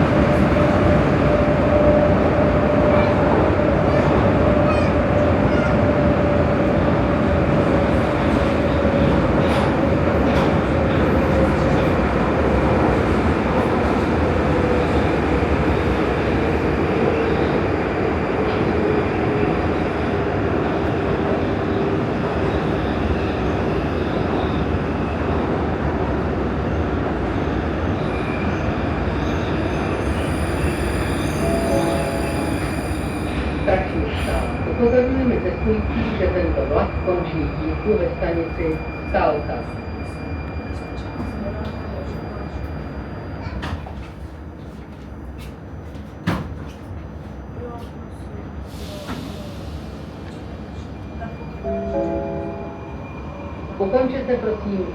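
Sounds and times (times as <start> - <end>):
metro train rumbling in tunnel: 0.0 - 54.9.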